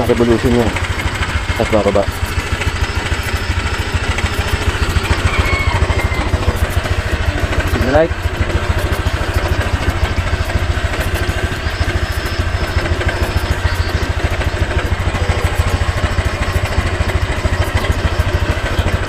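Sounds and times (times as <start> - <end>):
scooter engine idling: 0.0 - 19.0.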